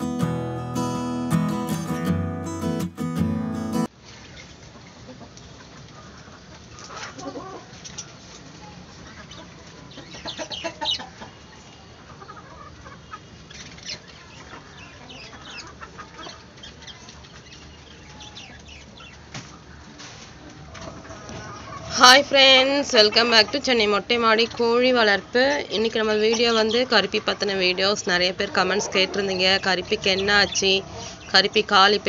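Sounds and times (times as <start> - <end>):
chickens clucking: 4.3 - 31.5.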